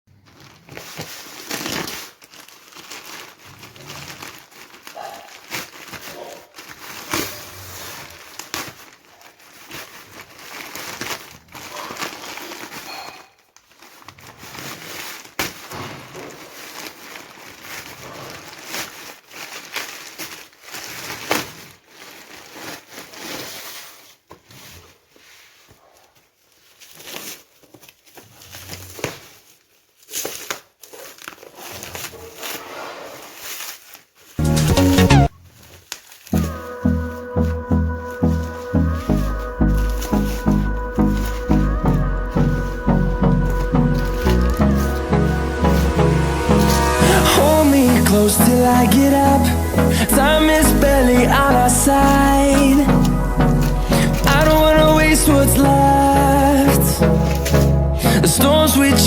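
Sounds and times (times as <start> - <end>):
packaging crinkling and rustling: 0.1 - 59.0.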